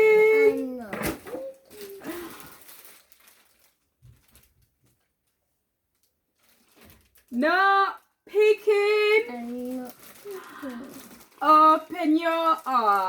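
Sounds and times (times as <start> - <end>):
packaging rustling: 0.2 - 13.0.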